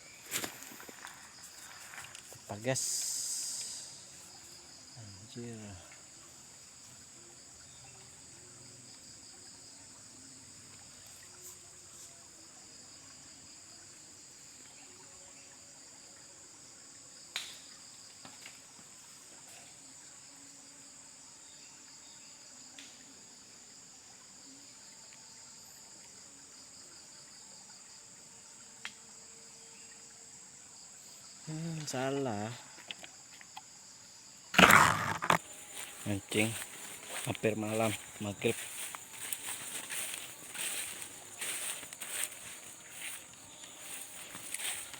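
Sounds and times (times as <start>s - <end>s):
insect chorus whirring: 0.0s - 44.9s.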